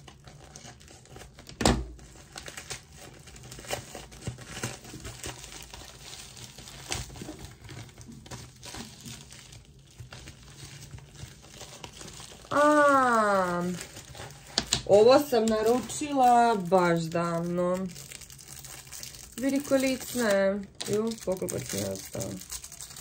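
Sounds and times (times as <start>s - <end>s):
plastic bag crinkling and tearing: 0.0s - 23.0s.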